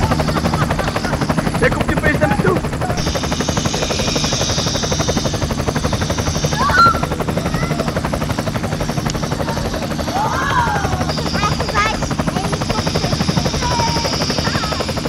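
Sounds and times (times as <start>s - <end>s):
high whine: 0.0s - 15.0s
toy helicopter rotors buzzing: 0.0s - 15.0s.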